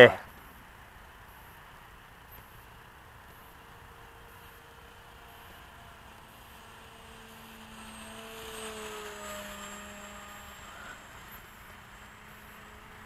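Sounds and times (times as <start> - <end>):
model plane propeller droning: 0.0 - 13.0.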